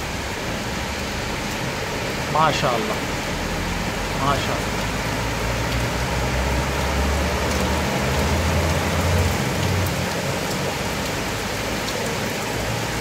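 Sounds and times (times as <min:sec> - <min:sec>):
heavy rain on flooded road: 0:00.0 - 0:13.0
trucks driving through water: 0:00.0 - 0:13.0.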